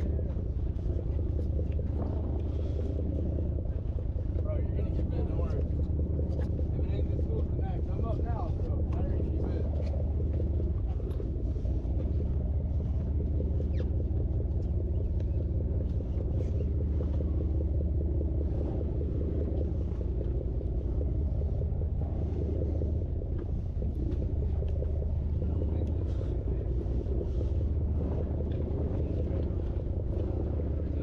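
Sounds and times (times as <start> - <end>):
boat engine rumbling: 0.0 - 31.0.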